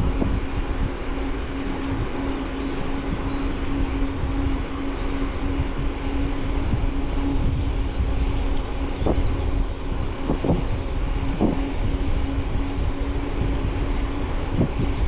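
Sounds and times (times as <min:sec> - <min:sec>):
low riding rumble: 0:00.0 - 0:15.0
steady hum: 0:00.0 - 0:15.0
wind on microphone: 0:00.0 - 0:15.0.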